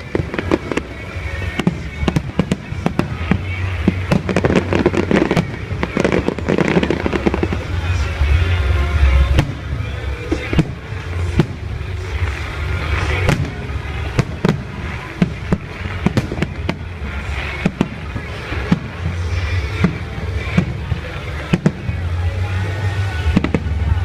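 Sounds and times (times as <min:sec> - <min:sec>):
fireworks bangs: 0:00.0 - 0:24.0
fireworks crackling: 0:00.0 - 0:24.0
steady low rumble: 0:00.0 - 0:24.0.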